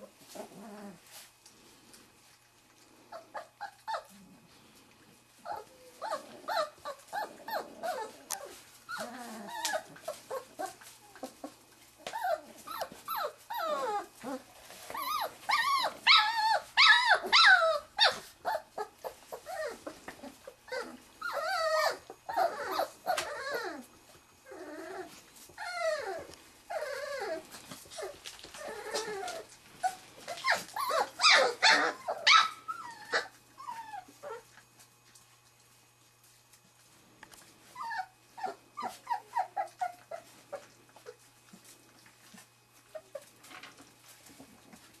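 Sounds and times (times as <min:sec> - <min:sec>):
puppies whining and yipping: 0:03.1 - 0:04.3, 0:05.4 - 0:34.7, 0:37.6 - 0:43.3.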